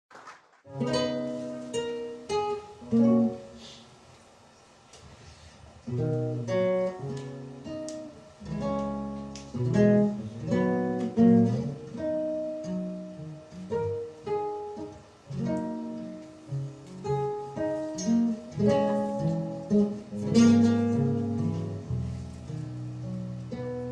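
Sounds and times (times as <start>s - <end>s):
acoustic guitar picking and strumming: 0.7s - 3.6s, 5.8s - 23.9s.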